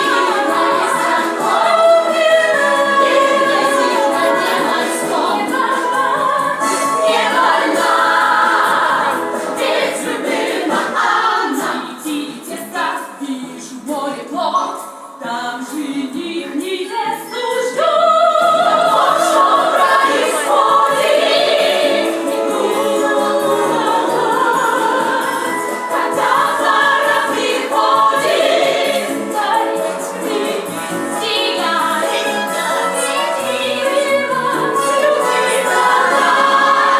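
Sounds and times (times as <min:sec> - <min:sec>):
choir-like singing with accompaniment: 0:00.0 - 0:36.9.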